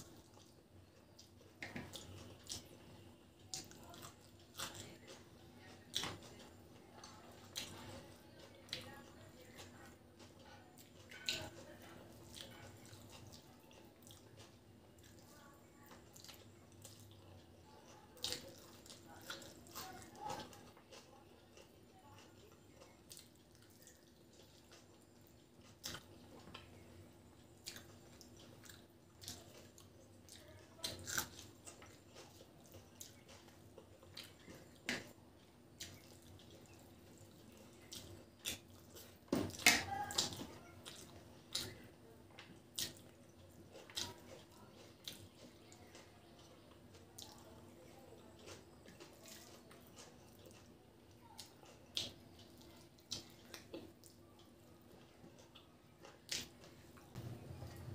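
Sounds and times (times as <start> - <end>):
faint steady hum: 0.0 - 57.9
wet chewing and mouth smacks: 0.0 - 57.9.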